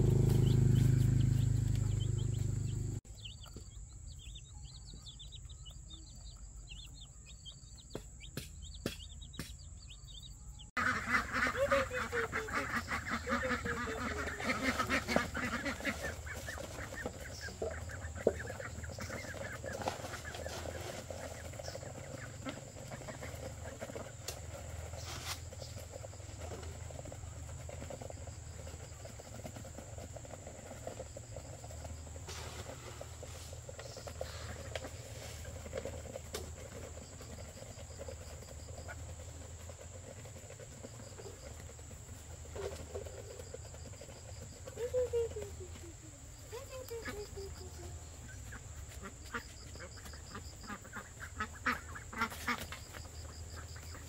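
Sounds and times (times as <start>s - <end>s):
ducklings calling: 0.0s - 26.9s, 32.6s - 45.7s, 46.5s - 54.0s
ducklings pecking: 0.0s - 54.0s.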